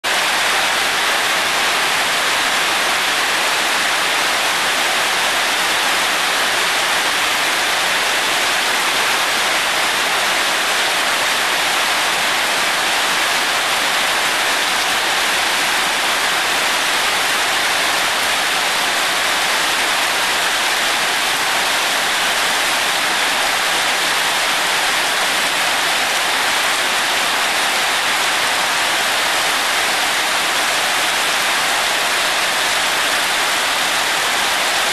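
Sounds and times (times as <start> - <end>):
heavy rain on wet paving: 0.0 - 34.9.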